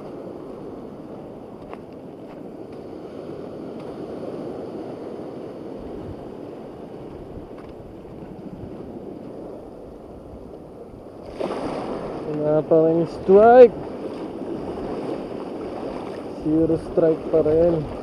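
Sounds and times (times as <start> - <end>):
rushing wind: 0.0 - 18.0
sea waves: 0.0 - 18.0
wind buffeting microphone: 0.0 - 18.0.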